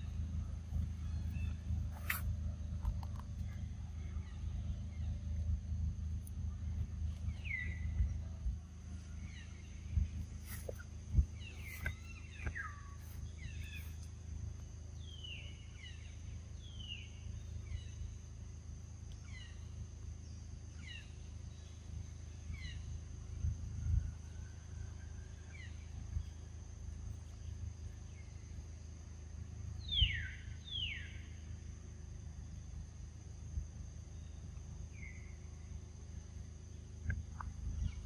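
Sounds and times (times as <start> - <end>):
low rumble: 0.0 - 30.6, 31.3 - 38.0
high insect drone: 0.0 - 38.0.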